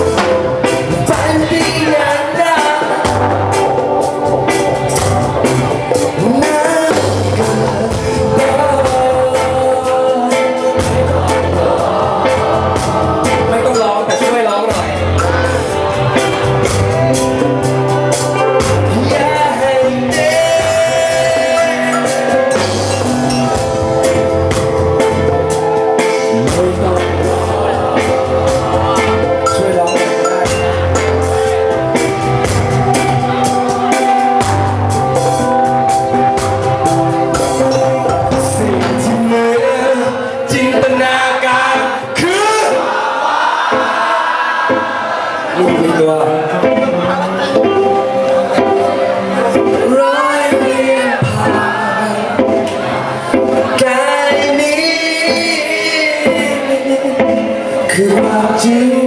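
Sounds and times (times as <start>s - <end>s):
live band with singer: 0.0s - 59.0s.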